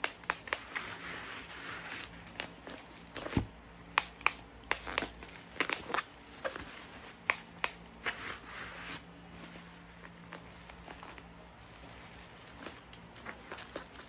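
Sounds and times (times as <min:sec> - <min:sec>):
bubble wrap crinkling: 0:00.2 - 0:14.0.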